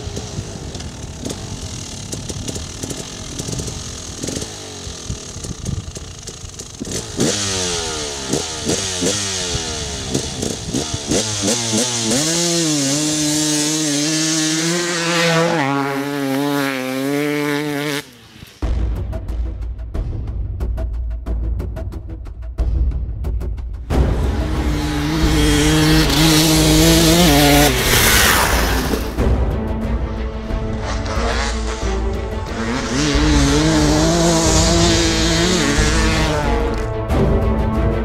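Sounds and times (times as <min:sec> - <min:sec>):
two-stroke motorcycle engine revving: 0:00.0 - 0:18.6, 0:23.9 - 0:29.3, 0:30.4 - 0:37.2.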